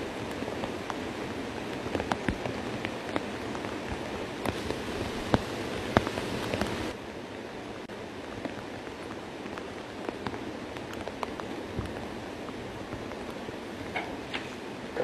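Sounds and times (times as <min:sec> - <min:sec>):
rain hissing: 0:00.0 - 0:15.0
rushing floodwater: 0:00.0 - 0:15.0.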